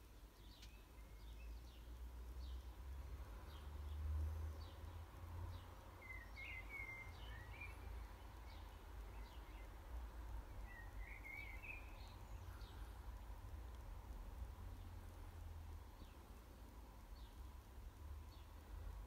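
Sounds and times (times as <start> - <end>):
faint bird chirping: 0.0 - 19.0.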